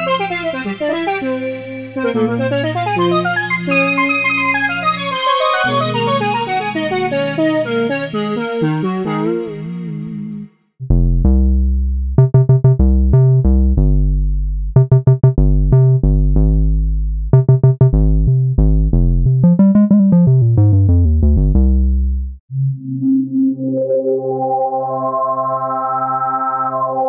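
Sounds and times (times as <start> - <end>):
synthesizer bass line: 0.0 - 27.0.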